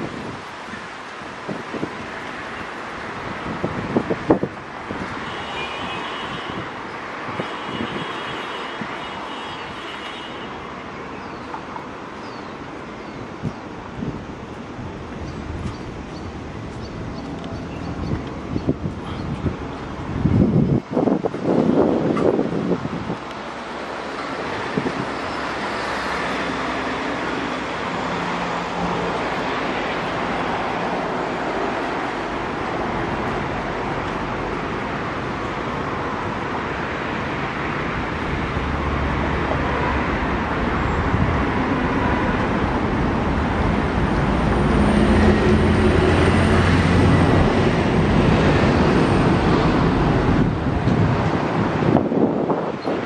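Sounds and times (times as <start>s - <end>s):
traffic noise: 0.0s - 53.0s.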